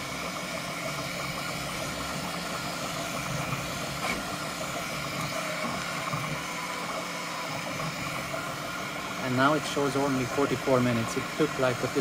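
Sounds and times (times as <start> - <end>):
printer motors and fans whirring: 0.0 - 12.0.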